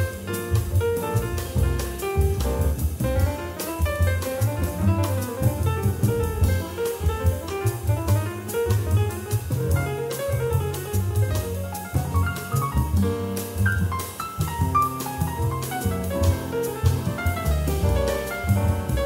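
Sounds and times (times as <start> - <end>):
drum kit: 0.0 - 19.0
piano: 0.0 - 19.0
small-group jazz: 0.0 - 19.0
walking double bass: 0.0 - 19.0.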